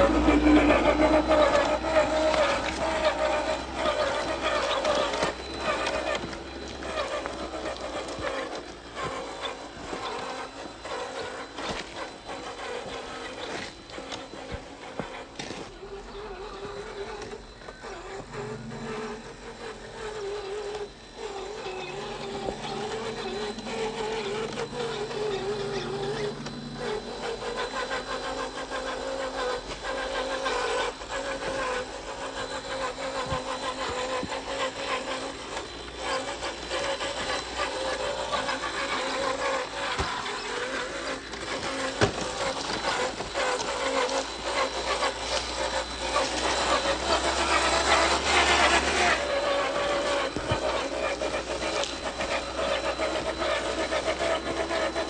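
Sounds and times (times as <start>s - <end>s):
rc car electric motor whining: 0.0s - 55.0s.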